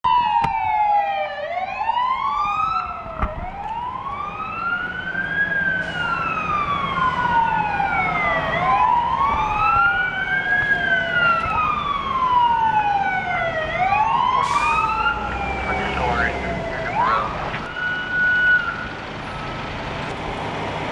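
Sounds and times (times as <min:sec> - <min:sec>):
fire truck siren wailing: 0:00.0 - 0:20.9
higher siren: 0:00.1 - 0:19.5
truck engines rumbling: 0:01.4 - 0:20.9.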